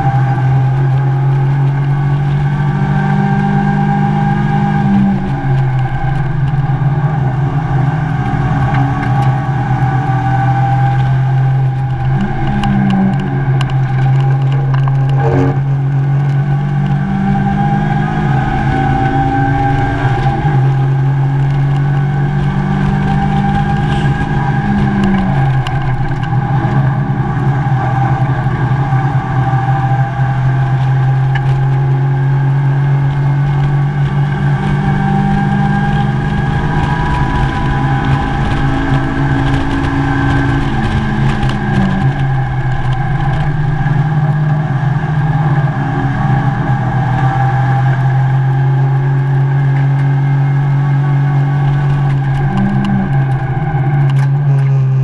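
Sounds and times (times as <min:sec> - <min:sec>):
race car engine: 0:00.0 - 0:55.0
road and wind noise: 0:00.0 - 0:55.0.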